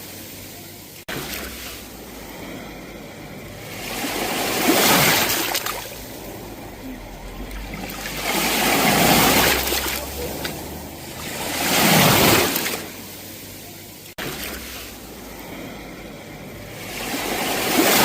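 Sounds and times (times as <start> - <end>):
sea waves washing onto shore: 0.0 - 18.0.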